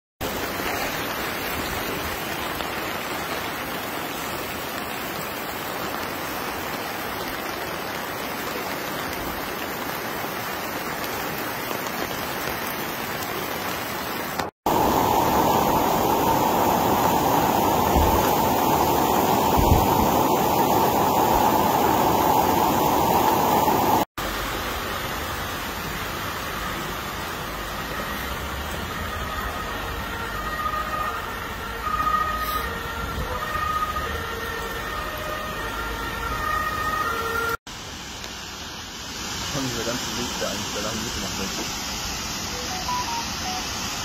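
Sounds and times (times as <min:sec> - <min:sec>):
floodwater rushing: 0:00.2 - 0:44.0.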